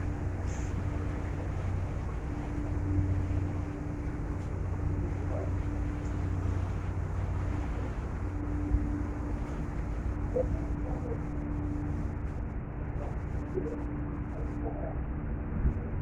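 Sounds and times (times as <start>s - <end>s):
water noise: 0.0s - 13.8s
ferry engines humming: 0.0s - 14.8s
wind: 0.0s - 16.0s.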